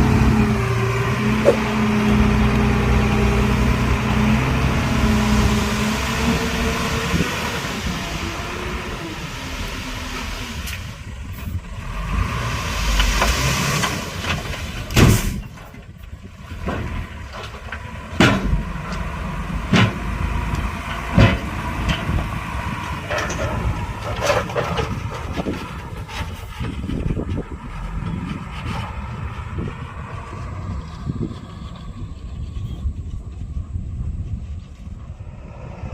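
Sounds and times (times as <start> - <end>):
diesel machinery running: 0.0 - 35.9.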